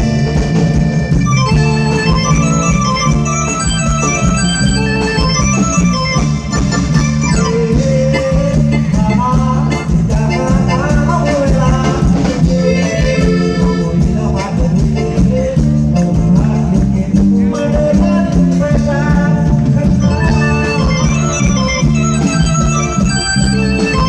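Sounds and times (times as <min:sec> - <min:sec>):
electronic organ melody: 0:00.0 - 0:16.0, 0:18.8 - 0:24.0
bass and drum beat: 0:00.0 - 0:24.0.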